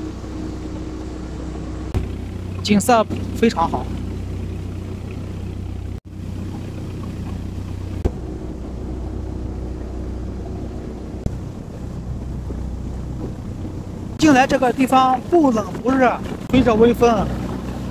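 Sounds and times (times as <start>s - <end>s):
boat engine droning: 0.0s - 17.9s.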